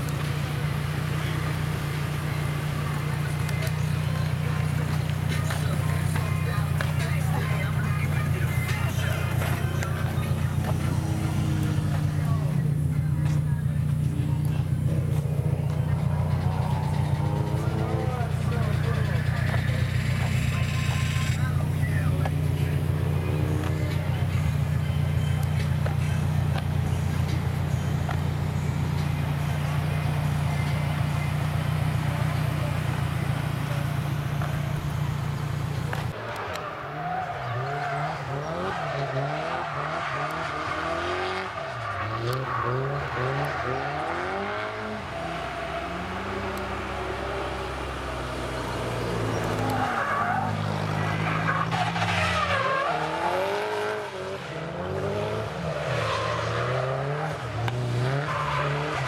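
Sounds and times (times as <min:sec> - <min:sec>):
car engine idling: 0:00.0 - 0:51.9
car engines revving: 0:00.0 - 0:59.0
tyres squealing: 0:01.1 - 0:54.0.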